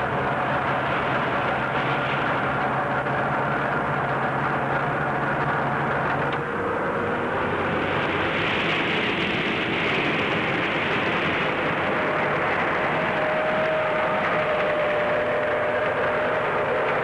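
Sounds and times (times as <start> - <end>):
heavy vehicle engines running: 0.0 - 17.0.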